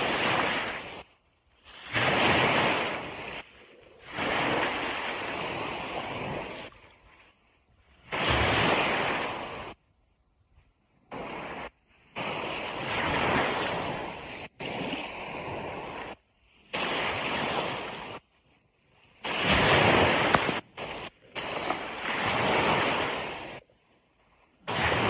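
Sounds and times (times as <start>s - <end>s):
ocean surf washing: 0.0s - 9.8s, 11.0s - 25.0s.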